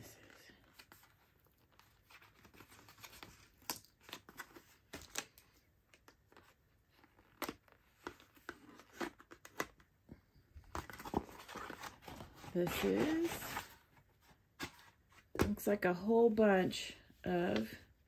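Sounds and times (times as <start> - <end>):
cardboard envelope rustling: 0.2 - 9.9, 10.6 - 15.4.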